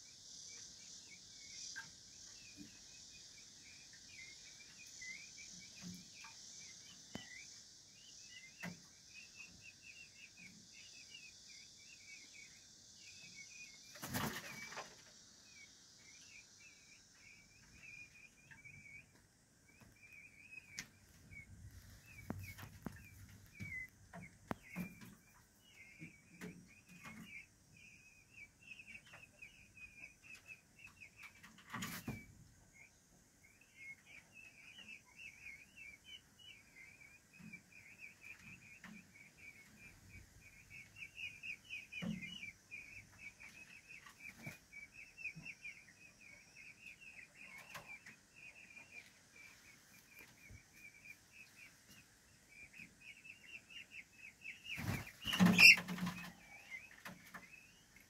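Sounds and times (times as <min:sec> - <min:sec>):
peachicks peeping: 0:00.0 - 0:58.0.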